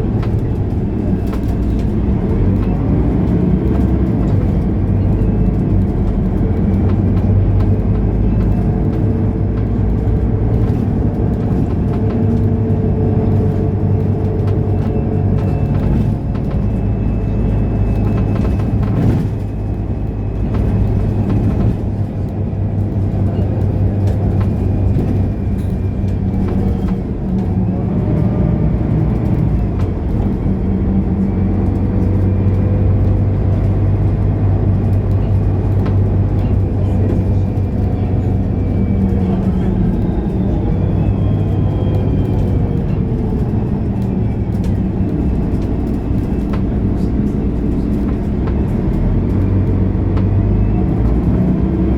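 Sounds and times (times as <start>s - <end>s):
bus engine droning: 0.0s - 51.9s.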